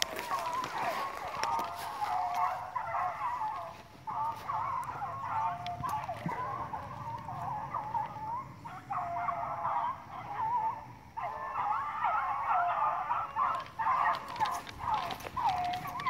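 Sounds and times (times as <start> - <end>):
pack of beagles baying: 0.0 - 16.0.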